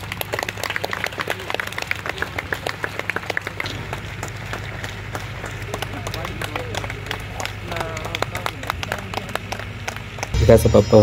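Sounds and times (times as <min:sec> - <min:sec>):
audience clapping: 0:00.0 - 0:10.6
steady low hum: 0:00.0 - 0:11.0.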